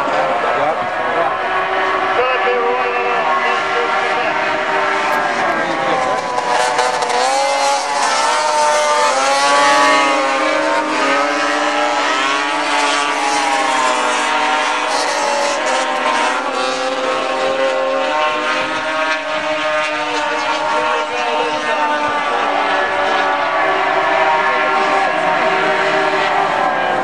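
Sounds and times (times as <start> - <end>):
snowmobile engines at high revs: 0.0 - 27.0.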